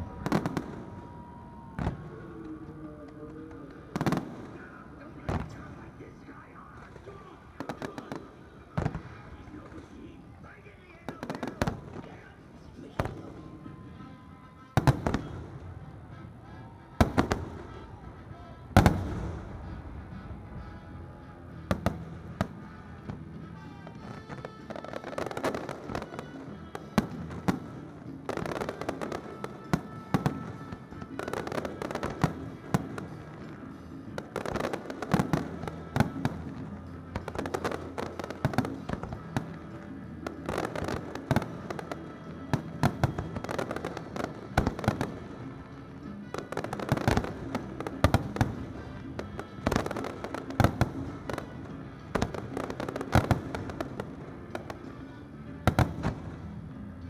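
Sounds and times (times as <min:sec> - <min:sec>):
fireworks bangs and crackles: 0:00.0 - 0:57.0
music soundtrack: 0:00.0 - 0:57.0.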